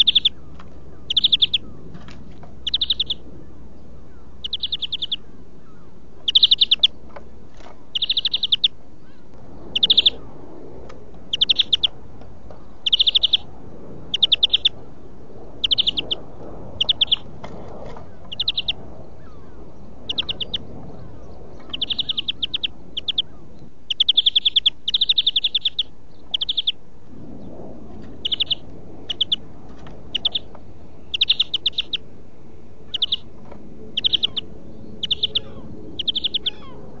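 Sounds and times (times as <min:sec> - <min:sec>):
bird trilling song: 0:00.0 - 0:10.3, 0:11.2 - 0:17.3, 0:18.0 - 0:26.8, 0:27.4 - 0:29.4, 0:30.1 - 0:32.1, 0:32.9 - 0:37.0.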